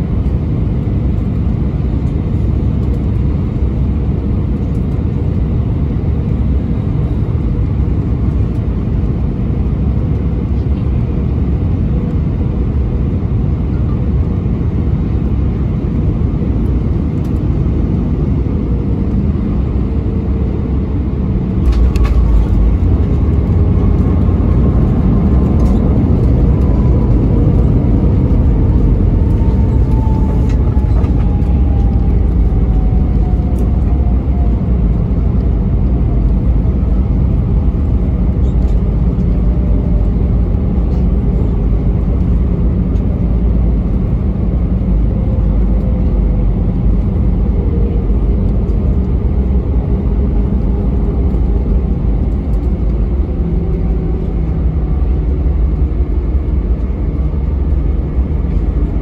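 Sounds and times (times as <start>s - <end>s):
jet engine whine falling: 0.0s - 59.0s
rumble of wheels and airflow: 0.0s - 59.0s.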